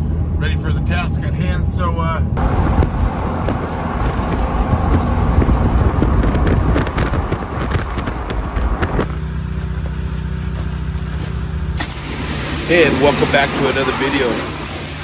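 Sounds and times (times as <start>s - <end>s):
rough engine and road rumble: 0.0s - 15.0s
steady engine hum: 0.0s - 15.0s.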